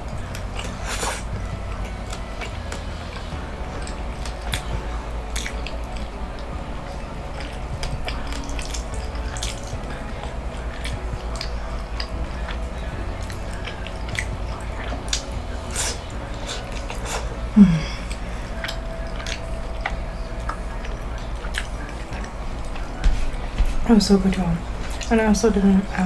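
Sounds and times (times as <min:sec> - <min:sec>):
chewing with mouth clicks: 0:00.0 - 0:26.0
low rumble: 0:00.0 - 0:26.0.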